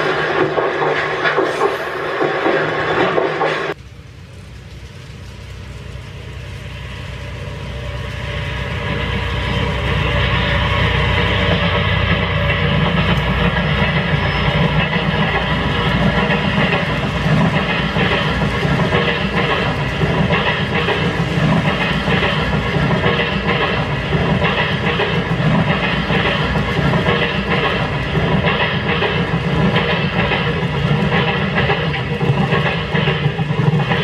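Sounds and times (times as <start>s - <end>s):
model train running: 0.0s - 34.0s
wheels clicking over rail joints: 0.0s - 34.0s.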